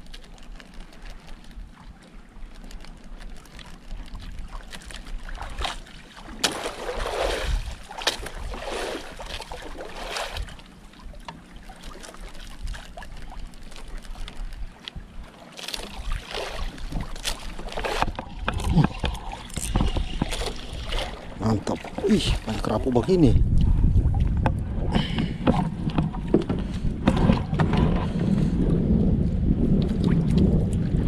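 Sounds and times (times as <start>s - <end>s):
low steady rumble: 0.0s - 31.0s
water slapping boat hull: 0.0s - 31.0s.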